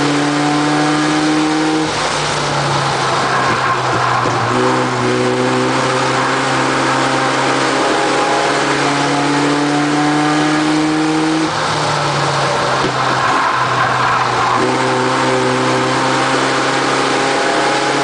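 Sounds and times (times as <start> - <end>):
truck engines racing past: 1.4 - 18.0.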